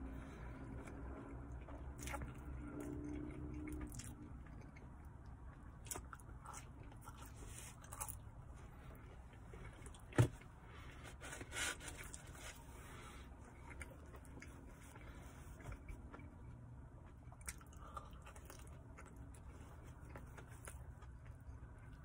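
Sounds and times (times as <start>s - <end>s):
chewing pizza crust: 0.2s - 22.0s.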